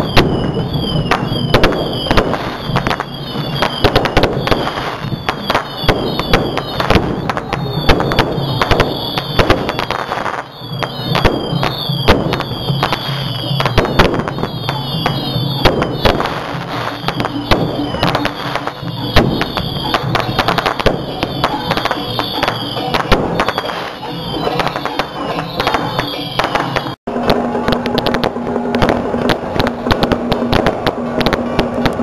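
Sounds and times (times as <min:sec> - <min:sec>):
fireworks bangs and cracks: 0:00.0 - 0:32.0
rockets whistling: 0:00.0 - 0:32.0.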